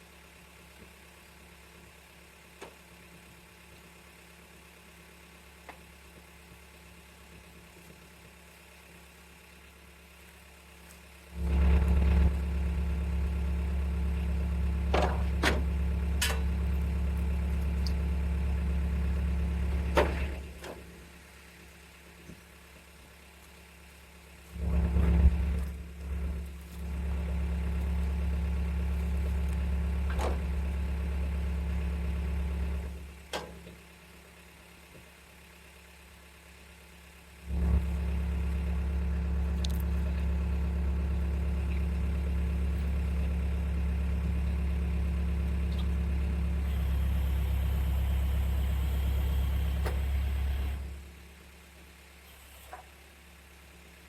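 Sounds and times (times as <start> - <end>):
low motor hum: 5.5 - 51.6.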